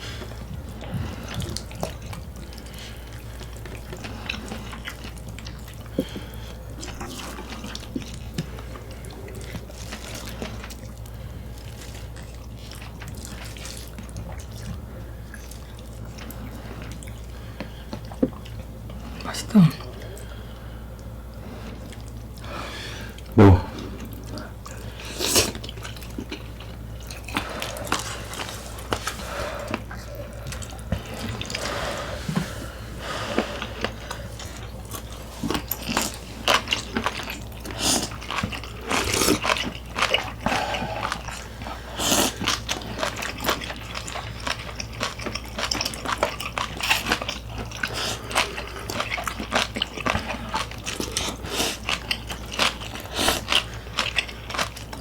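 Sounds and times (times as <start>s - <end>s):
chewing and mouth smacks: 0.0s - 22.5s, 23.1s - 32.5s, 33.1s - 55.0s
steady low hum: 0.0s - 55.0s.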